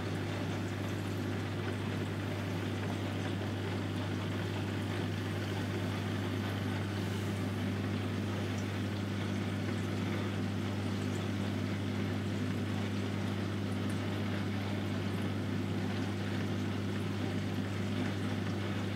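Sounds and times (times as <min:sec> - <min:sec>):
aquarium pump hum: 0:00.0 - 0:18.9.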